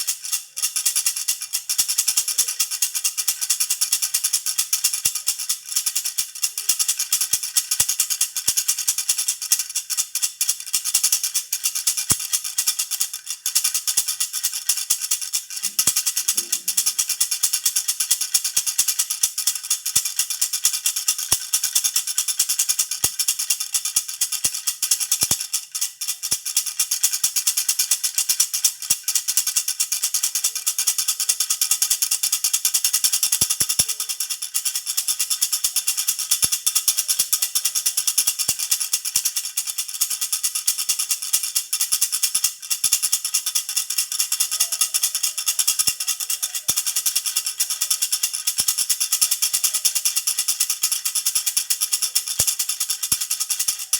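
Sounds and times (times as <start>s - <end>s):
baby rattle jingling: 0.0s - 53.9s.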